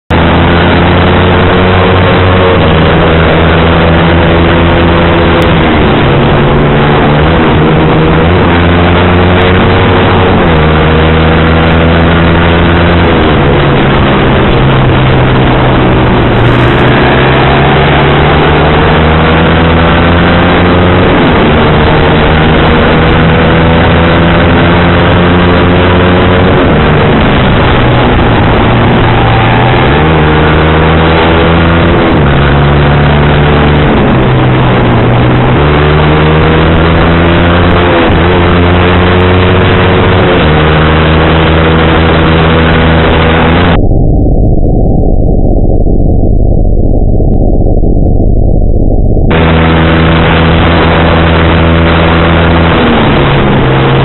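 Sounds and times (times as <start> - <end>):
motorcycle engine shifting gears: 0.0 - 43.8, 49.3 - 54.0
rush of wind noise: 0.0 - 54.0.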